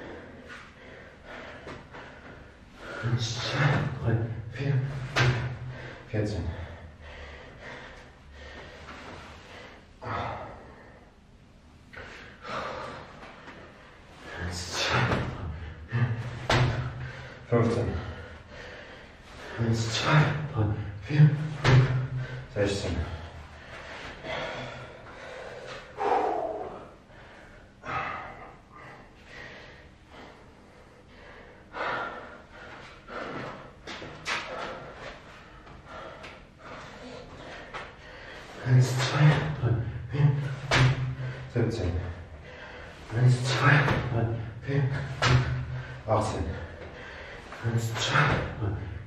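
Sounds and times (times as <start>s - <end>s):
man breathing hard and gasping: 0.0s - 49.0s.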